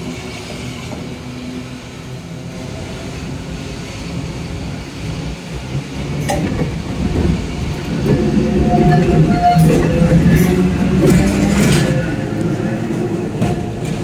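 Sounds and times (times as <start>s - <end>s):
tram wheels rumbling: 0.0s - 14.0s.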